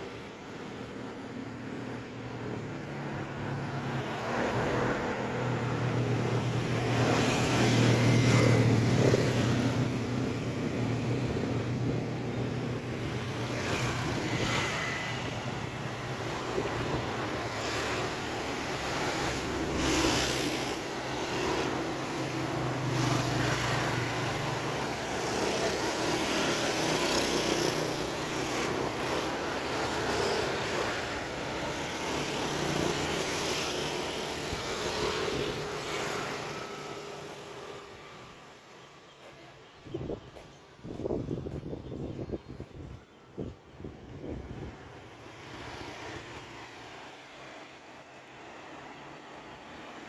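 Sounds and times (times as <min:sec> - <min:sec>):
low traffic hum: 0:00.0 - 0:50.0
vehicles passing by: 0:00.0 - 0:50.0.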